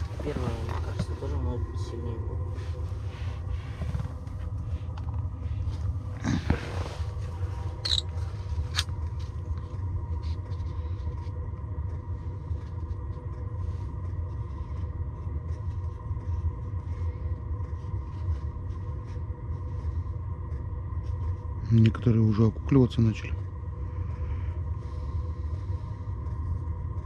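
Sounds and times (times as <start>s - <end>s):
heater humming with faint whine: 0.0s - 27.0s.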